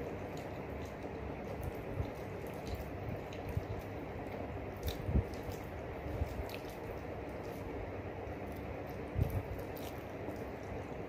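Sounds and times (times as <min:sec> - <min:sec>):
wet chewing and lip smacks: 0:00.0 - 0:11.0.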